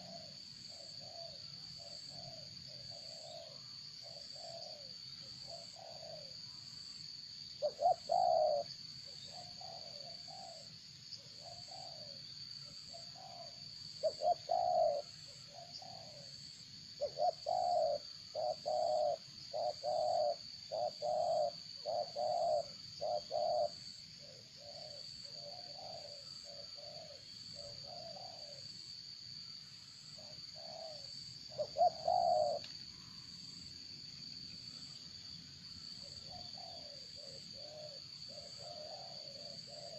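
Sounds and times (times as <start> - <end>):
dove cooing: 0.0 - 6.4, 7.6 - 12.2, 12.9 - 16.3, 17.0 - 28.7, 30.2 - 32.7, 36.0 - 39.9.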